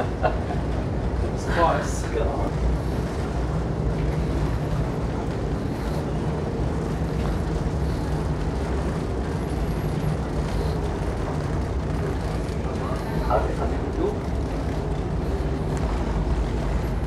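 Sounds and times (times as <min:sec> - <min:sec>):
ship engine and ventilation hum: 0:00.0 - 0:17.0.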